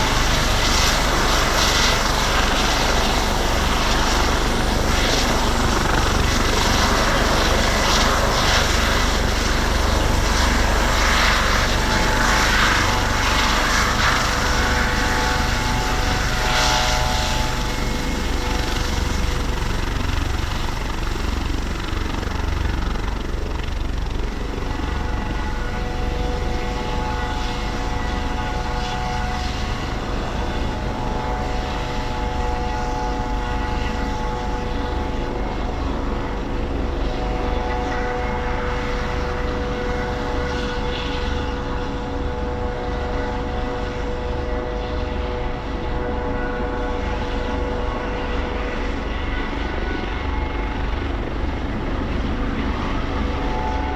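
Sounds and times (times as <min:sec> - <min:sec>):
helicopter rumble: 0:00.0 - 0:53.9
turbine whine: 0:00.0 - 0:53.9.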